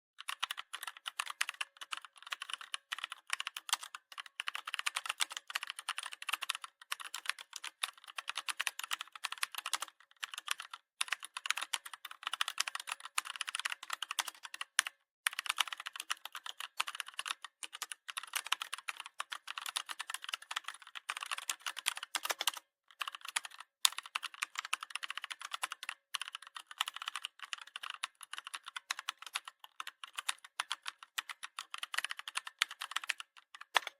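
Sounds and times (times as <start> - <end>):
fast keyboard typing: 0.2 - 33.9.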